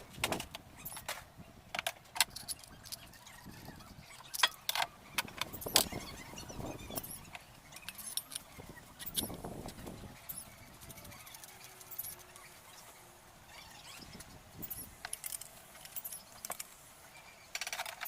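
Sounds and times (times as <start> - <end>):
metallic clicks of small parts: 0.1 - 6.0, 6.9 - 12.4, 14.1 - 16.9, 17.5 - 18.0.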